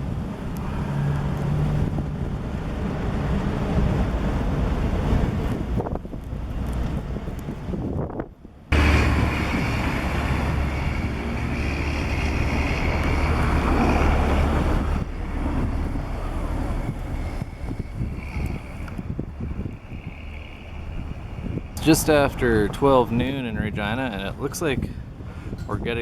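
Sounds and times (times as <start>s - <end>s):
city traffic noise: 0.0s - 26.0s
wind buffeting microphone: 0.0s - 26.0s.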